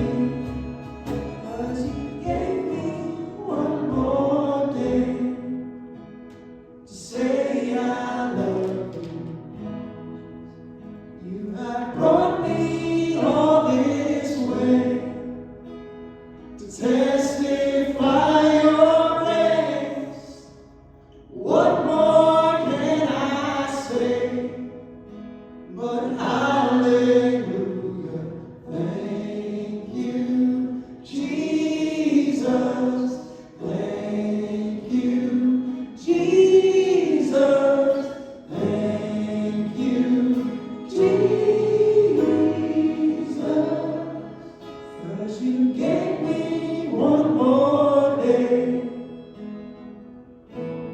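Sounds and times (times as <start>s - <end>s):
group singing gospel song: 0.0s - 5.8s, 6.9s - 9.5s, 11.2s - 15.6s, 16.6s - 20.6s, 21.3s - 24.9s, 25.7s - 49.3s.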